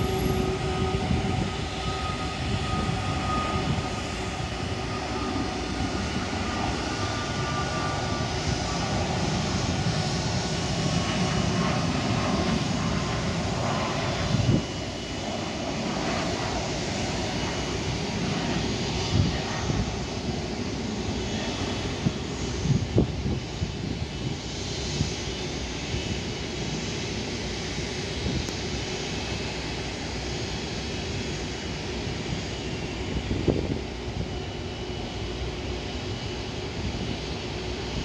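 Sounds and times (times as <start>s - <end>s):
jet airliner taking off: 0.0s - 38.0s.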